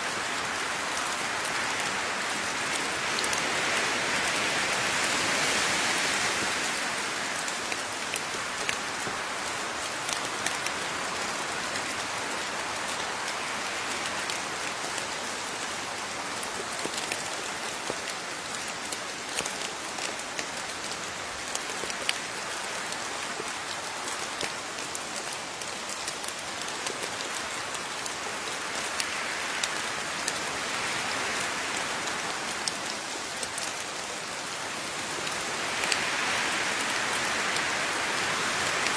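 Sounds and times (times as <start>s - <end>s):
steady rain falling: 0.0s - 38.9s
raindrops ticking on a surface: 0.1s - 38.9s.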